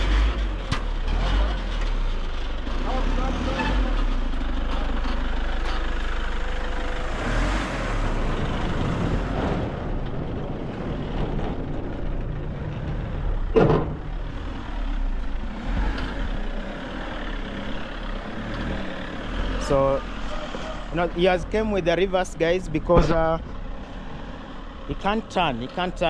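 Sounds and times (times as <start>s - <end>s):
vehicle engine reversing: 0.0s - 26.0s.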